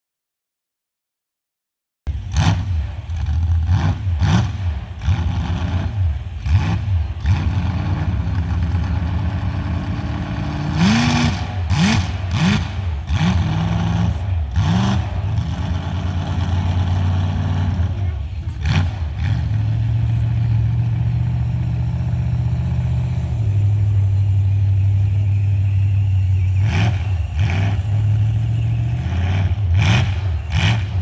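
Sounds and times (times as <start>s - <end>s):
low engine rumble: 2.1s - 31.0s
truck engine revving: 2.1s - 31.0s.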